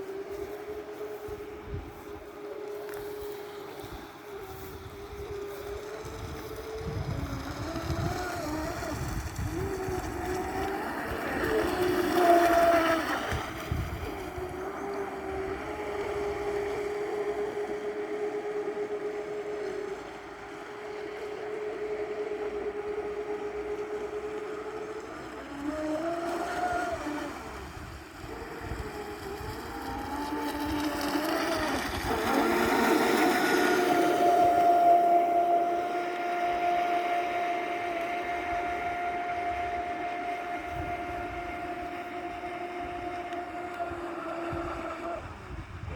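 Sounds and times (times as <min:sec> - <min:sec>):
electric motors whining: 0:00.0 - 0:45.9.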